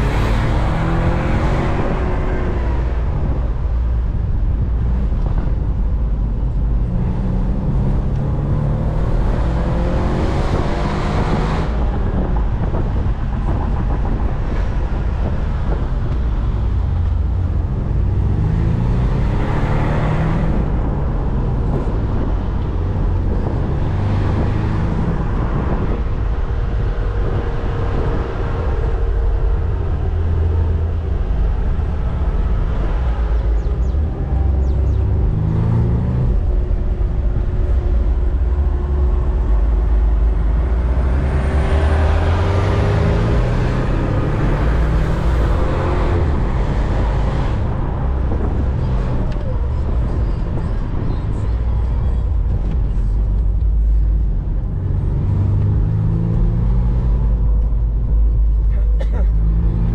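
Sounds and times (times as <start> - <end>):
car engine revving: 0.0 - 59.9
road and wind noise: 0.0 - 59.9.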